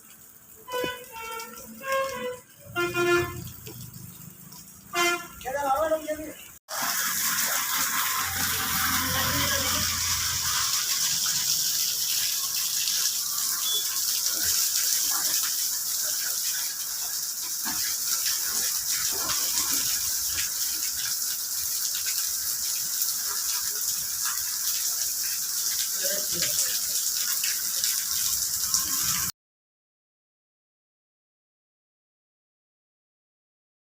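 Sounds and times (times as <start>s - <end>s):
water gushing: 0.0s - 29.3s.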